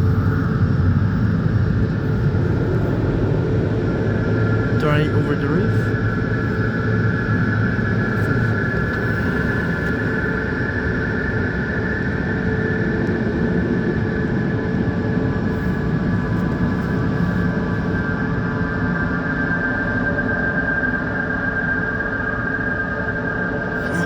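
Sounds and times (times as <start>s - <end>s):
high whine: 0.0s - 24.0s.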